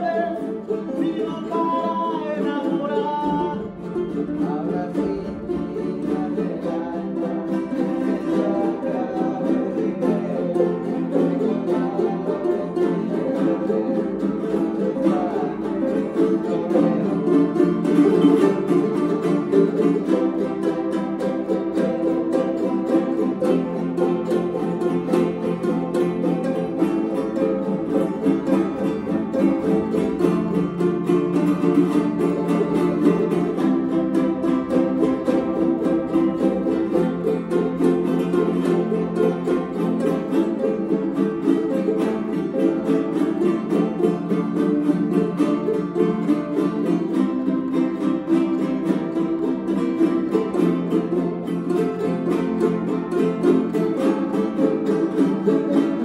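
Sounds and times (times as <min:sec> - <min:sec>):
guitars strummed in fast rhythm: 0:00.0 - 0:56.0.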